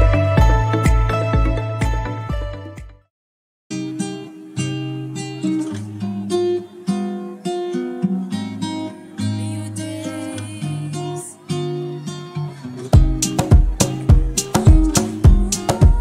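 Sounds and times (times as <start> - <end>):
acoustic guitar tune: 0.0 - 3.1, 3.7 - 16.0.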